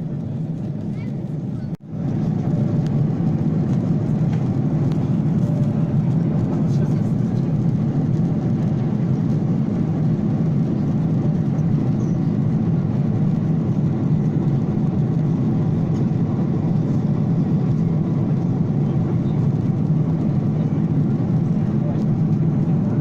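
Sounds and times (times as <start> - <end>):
airflow noise: 0.0 - 23.0
airliner engine drone: 0.0 - 23.0.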